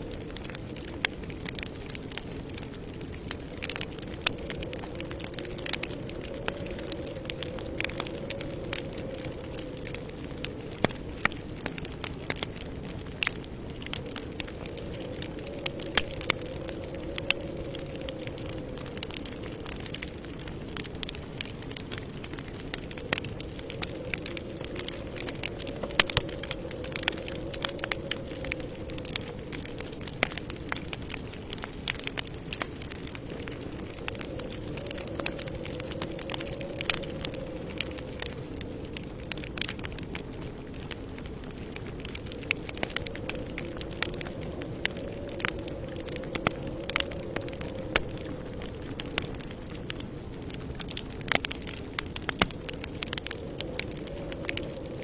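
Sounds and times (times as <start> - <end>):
burning wood popping and snapping: 0.0 - 55.0
low rush of flames: 0.0 - 55.0.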